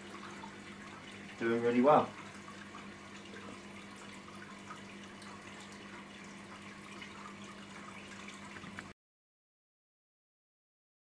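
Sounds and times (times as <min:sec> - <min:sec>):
water running and trickling: 0:00.0 - 0:09.0.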